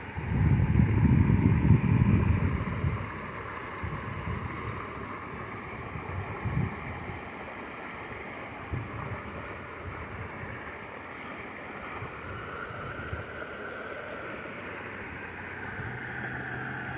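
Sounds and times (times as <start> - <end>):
wind rumbling on microphone: 0.0 - 16.9.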